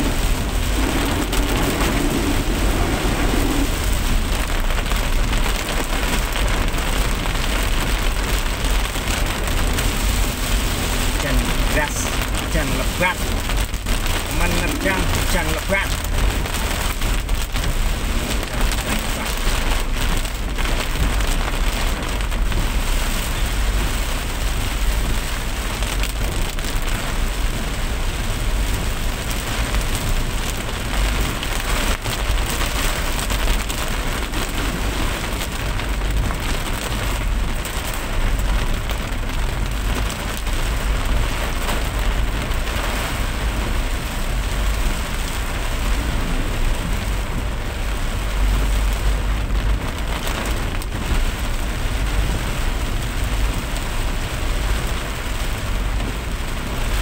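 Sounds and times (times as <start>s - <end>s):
continuous low rumble: 0.0s - 57.0s
steady rain on a surface: 0.0s - 57.0s.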